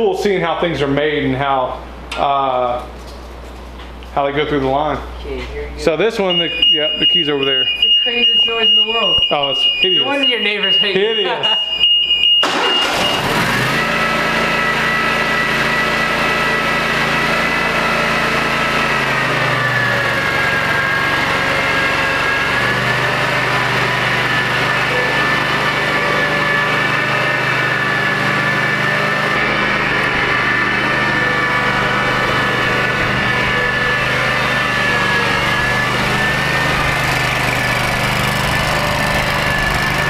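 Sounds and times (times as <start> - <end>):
riding mower engine with high whine: 6.3 - 40.0.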